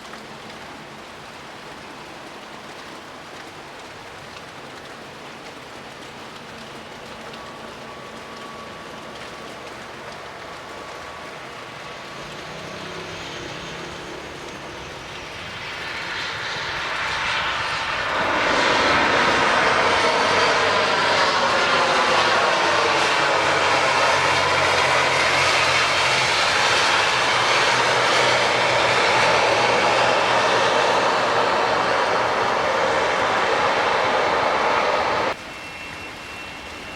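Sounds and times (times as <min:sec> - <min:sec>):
turboprop engine and propeller: 0:00.0 - 0:36.9.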